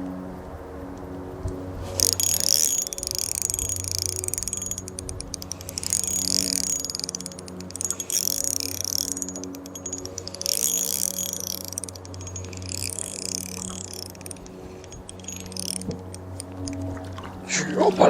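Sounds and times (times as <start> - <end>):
fishing reel drag clicking: 1.9 - 16.9.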